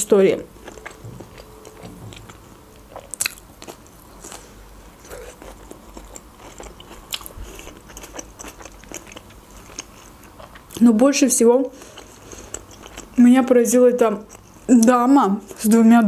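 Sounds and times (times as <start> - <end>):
person chewing and eating: 0.4 - 10.8, 11.8 - 15.7.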